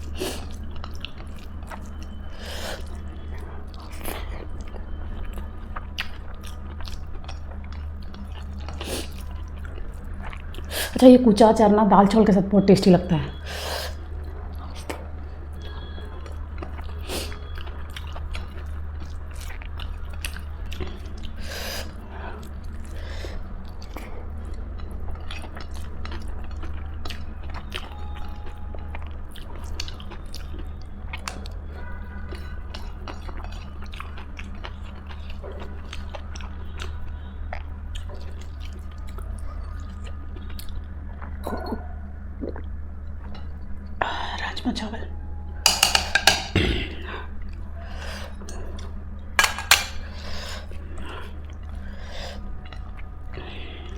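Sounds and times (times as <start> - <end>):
close chewing and mouth sounds: 0.0 - 11.0, 13.3 - 44.6, 47.0 - 53.9.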